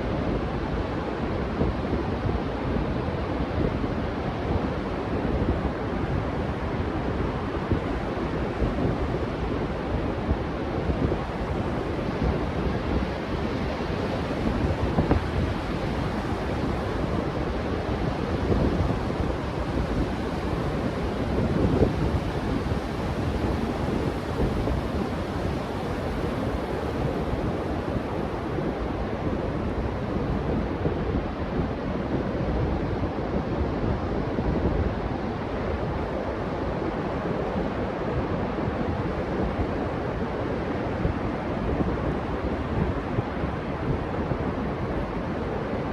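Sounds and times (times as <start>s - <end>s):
wind buffeting microphone: 0.2s - 45.9s.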